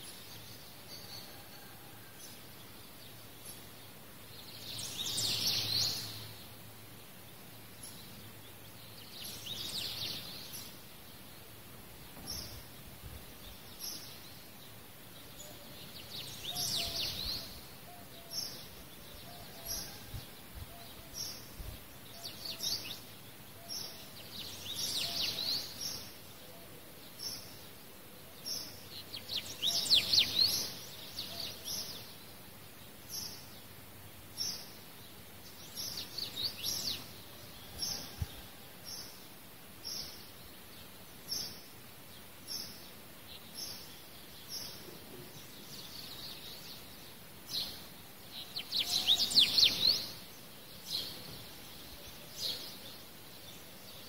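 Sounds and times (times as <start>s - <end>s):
small birds chirping: 2.6s - 54.0s.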